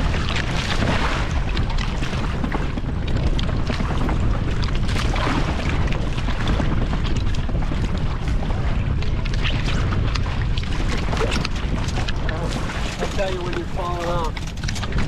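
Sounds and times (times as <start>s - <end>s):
water splashing against hulls: 0.0s - 15.0s
wind buffeting microphone: 0.0s - 15.0s.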